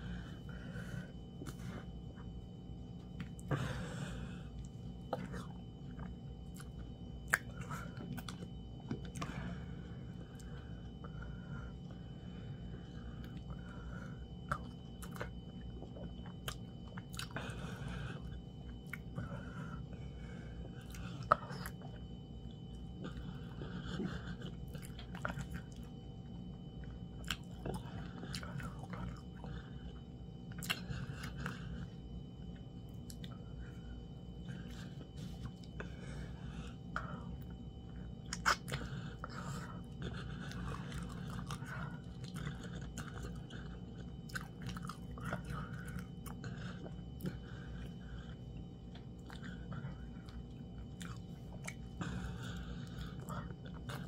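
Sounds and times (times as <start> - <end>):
person chewing: 0.0 - 12.0, 12.6 - 54.0
low hum: 0.0 - 54.0.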